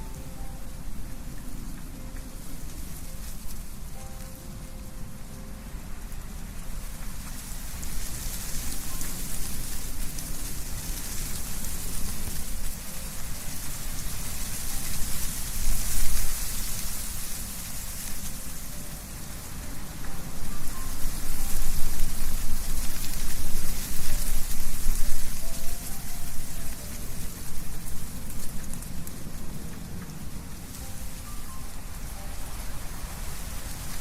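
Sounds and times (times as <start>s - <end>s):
leaves rustling in wind: 0.0s - 34.0s
low wind rumble: 0.0s - 34.0s.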